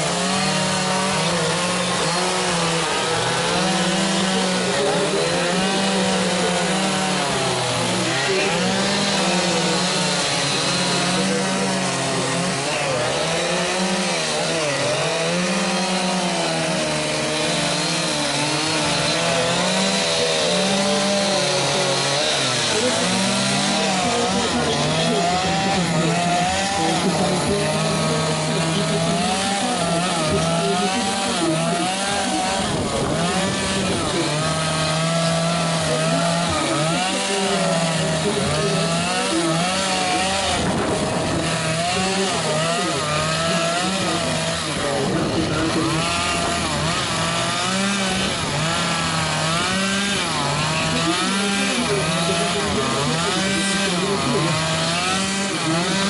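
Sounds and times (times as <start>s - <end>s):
chainsaw carving wood: 0.0s - 56.0s.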